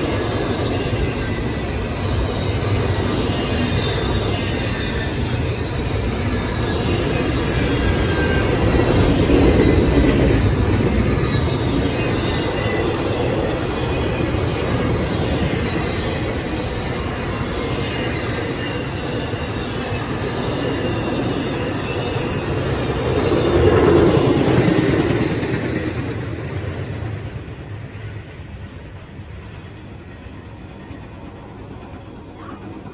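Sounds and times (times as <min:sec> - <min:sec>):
high wheel squeals: 0:00.0 - 0:28.2
train wheels rumbling on rails: 0:00.0 - 0:32.9.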